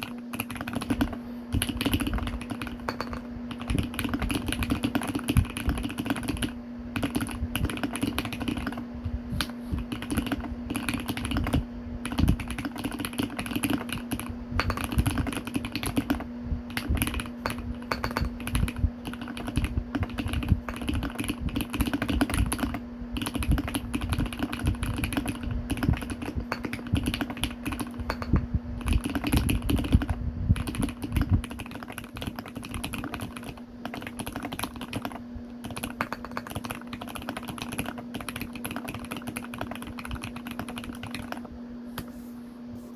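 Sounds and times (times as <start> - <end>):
mechanical keyboard typing: 0.0 - 8.8, 9.8 - 41.5
steady low hum: 0.0 - 42.9.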